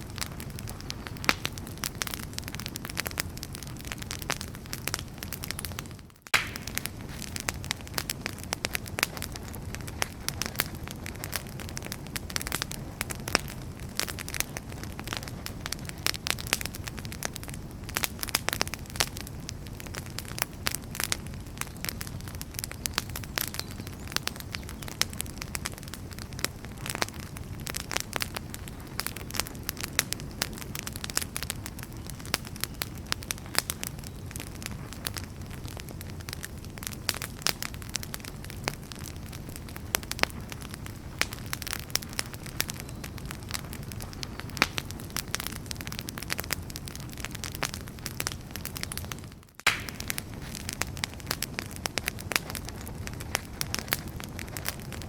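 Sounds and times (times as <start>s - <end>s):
fire rumbling: 0.0s - 55.0s
firewood crackling and popping: 0.0s - 55.0s.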